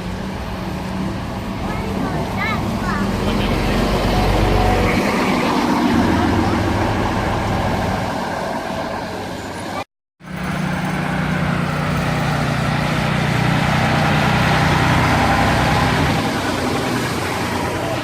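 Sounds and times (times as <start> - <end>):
heavy vehicle engine running: 0.0 - 9.5, 10.2 - 18.0.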